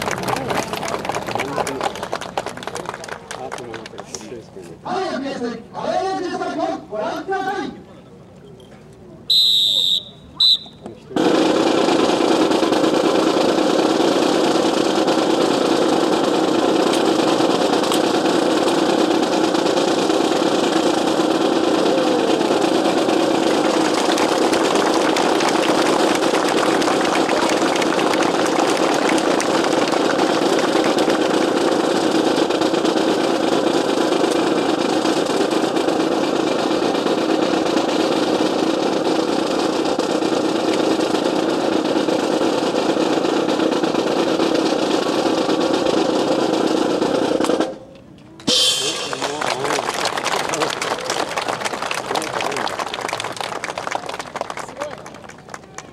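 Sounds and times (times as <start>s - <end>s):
loud steady engine: 0.0s - 55.9s.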